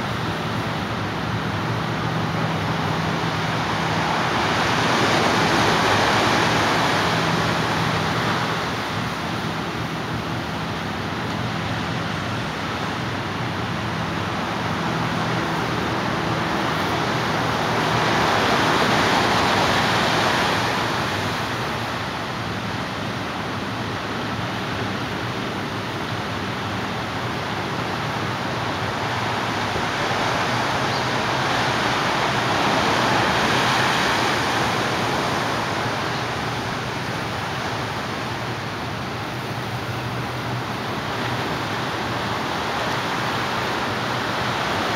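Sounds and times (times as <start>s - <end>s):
ocean surf breaking on beach: 0.0s - 44.9s.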